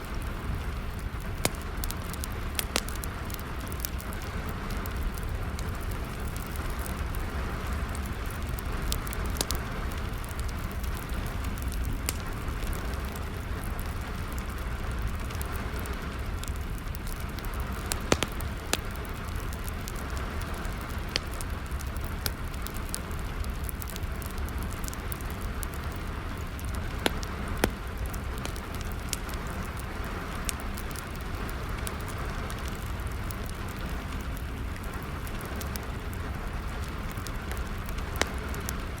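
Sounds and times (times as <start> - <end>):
steady rain: 0.0 - 39.0
wood fire crackling and popping: 0.0 - 39.0.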